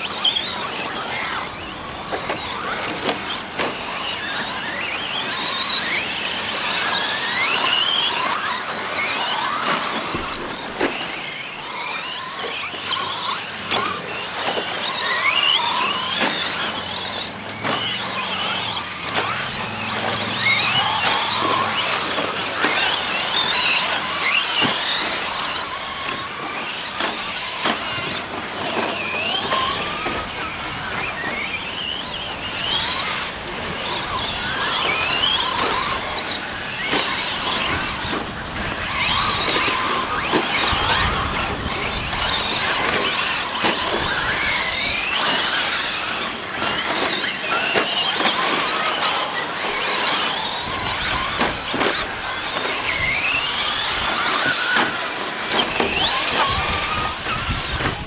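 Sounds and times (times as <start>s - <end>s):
rc truck motors whining: 0.0s - 58.0s.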